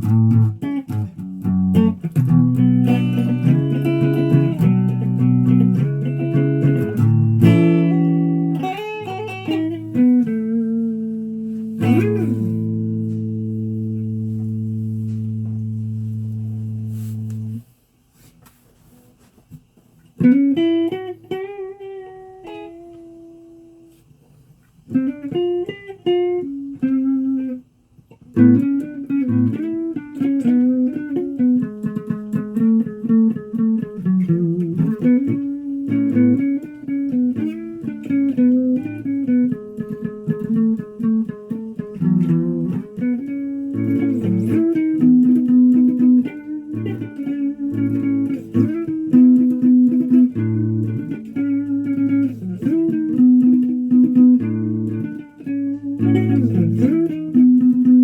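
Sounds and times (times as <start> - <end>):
guitar playing: 0.0 - 17.7, 20.2 - 24.0, 24.9 - 58.0.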